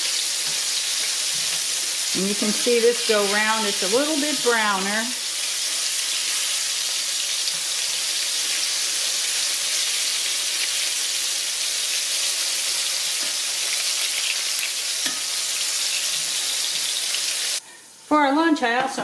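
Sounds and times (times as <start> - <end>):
fish sizzling in hot oil: 0.0 - 18.1.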